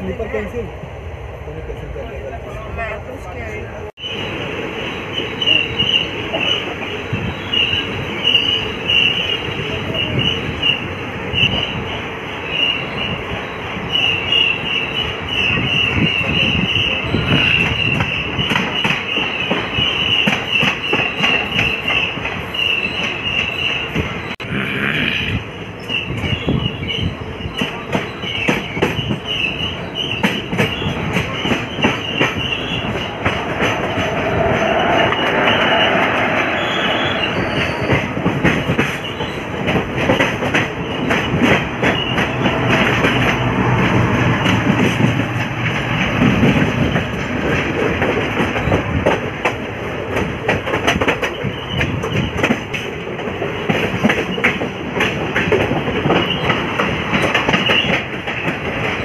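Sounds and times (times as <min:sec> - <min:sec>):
train wheels on rails: 0:02.5 - 0:59.0.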